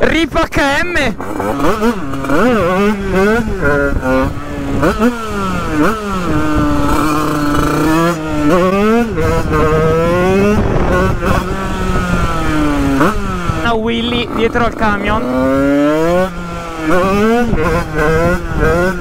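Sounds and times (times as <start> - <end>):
two-stroke dirt bike revving: 0.0 - 19.0.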